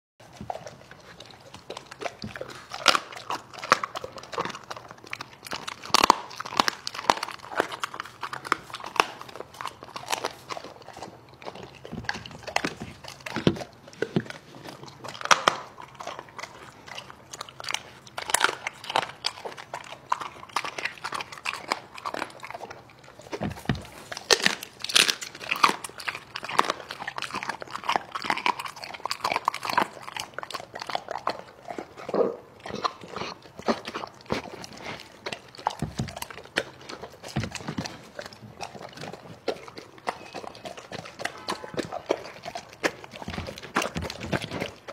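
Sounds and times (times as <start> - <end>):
dog biting and chewing: 0.2 - 44.9.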